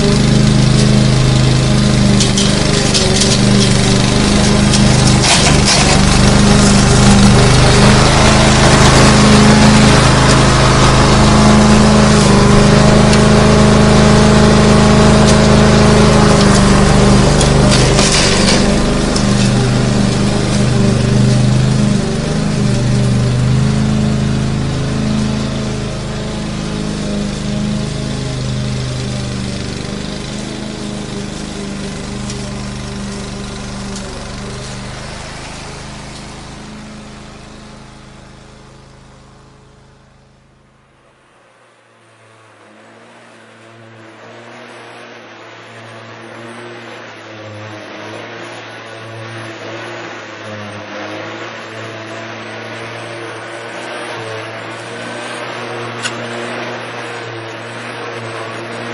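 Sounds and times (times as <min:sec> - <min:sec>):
lawn mower engine running: 0:00.0 - 0:58.9.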